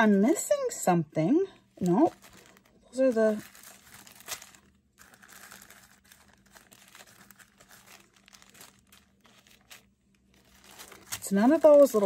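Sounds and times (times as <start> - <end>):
plastic bags crinkling: 1.6 - 12.0.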